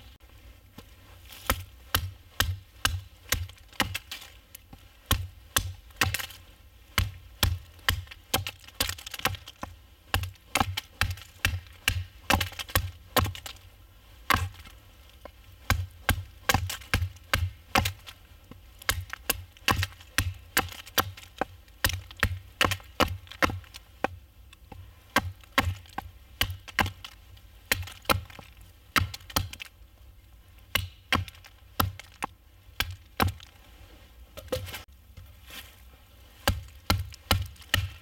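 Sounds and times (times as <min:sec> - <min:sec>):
wood being chopped: 0:01.3 - 0:29.7, 0:30.6 - 0:33.5, 0:34.4 - 0:35.3, 0:36.4 - 0:38.0.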